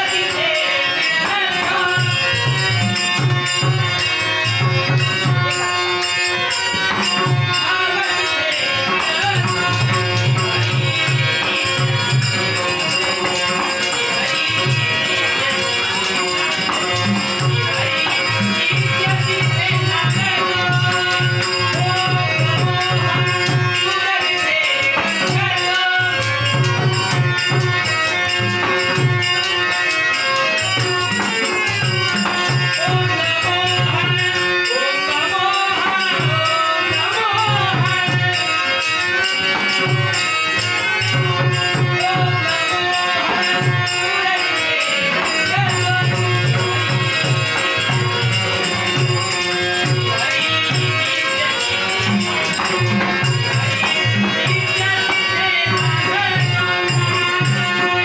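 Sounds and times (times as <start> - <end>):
harmonium melody: 0.0 - 58.0
man singing: 0.0 - 58.0.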